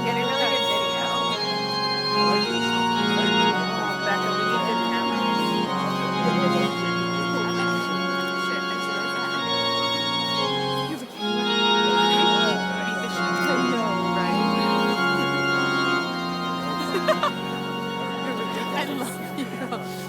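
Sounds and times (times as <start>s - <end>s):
organ playing held chords: 0.0s - 20.0s.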